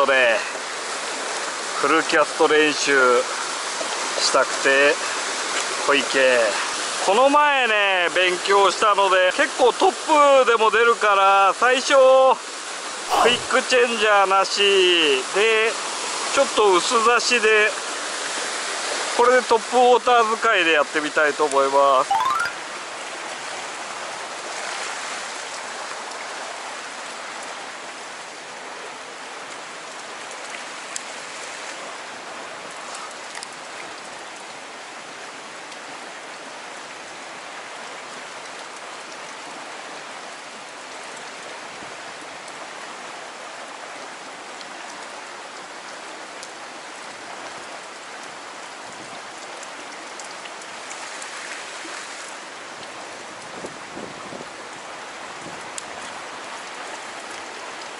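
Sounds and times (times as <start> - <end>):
stream rushing over rocks: 0.0 - 57.9.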